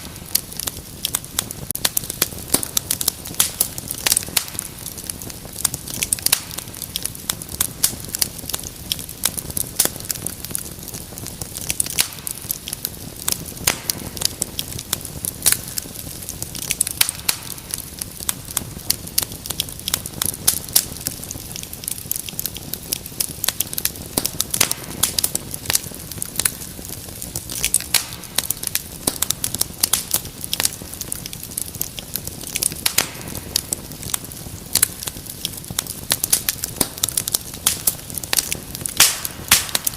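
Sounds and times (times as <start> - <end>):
fire crackling: 0.0 - 39.9
low rumble of flames: 0.0 - 39.9.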